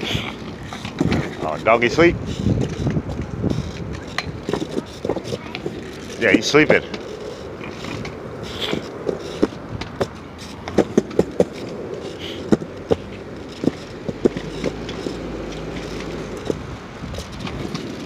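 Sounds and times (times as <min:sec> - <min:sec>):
scooter wheels rolling on concrete: 0:00.0 - 0:18.0.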